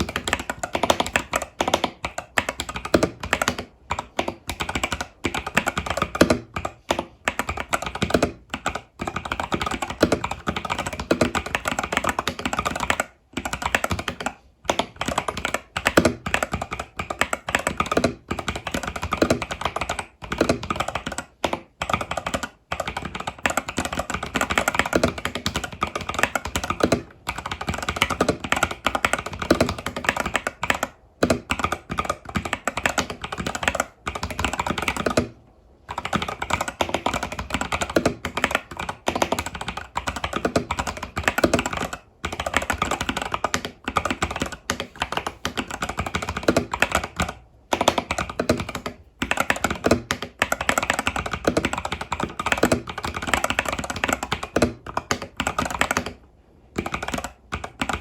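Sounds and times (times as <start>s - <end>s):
mechanical keyboard typing: 0.0s - 58.0s.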